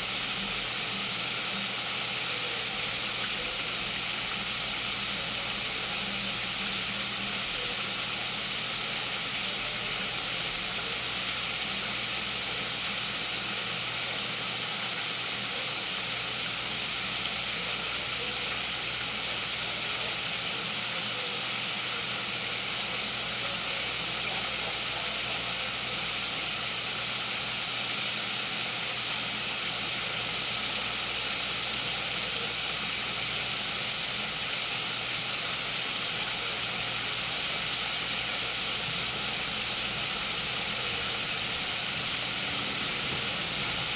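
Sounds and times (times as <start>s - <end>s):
chicken frying in oil: 0.0s - 43.9s.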